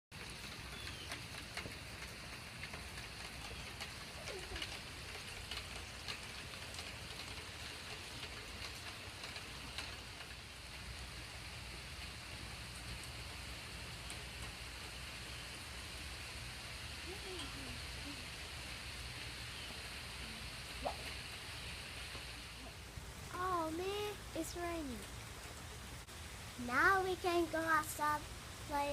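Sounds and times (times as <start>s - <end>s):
raindrop taps: 0.1s - 28.3s
steady rain falling: 0.1s - 28.9s.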